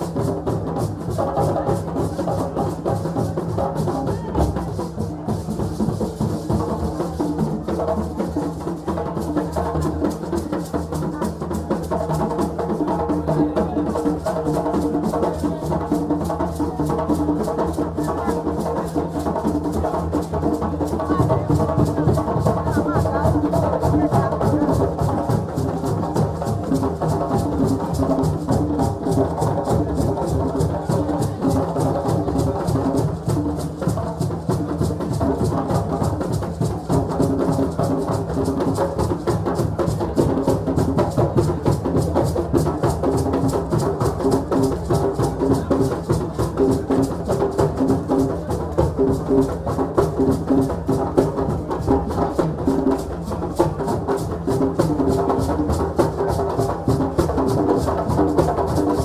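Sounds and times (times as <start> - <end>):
drums playing fast rhythm: 0.0 - 59.0.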